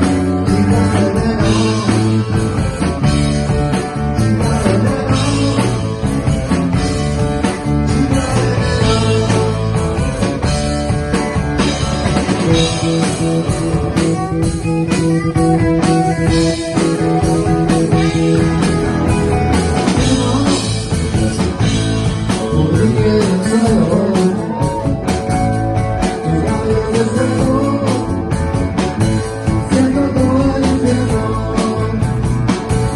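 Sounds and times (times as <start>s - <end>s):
bass guitar: 0.0s - 32.9s
lead guitar bending notes: 0.0s - 32.9s
steady drum beat: 0.0s - 32.9s.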